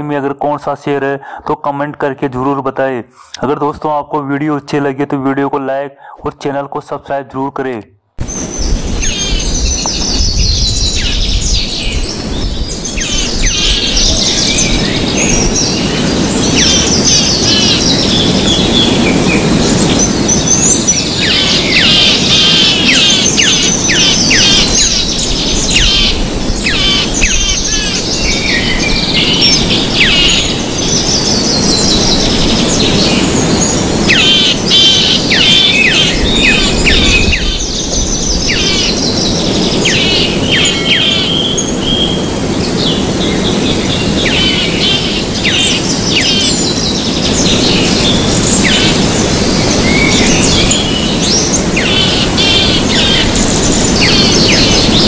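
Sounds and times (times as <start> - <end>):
birds chirping and singing: 8.2 - 55.0.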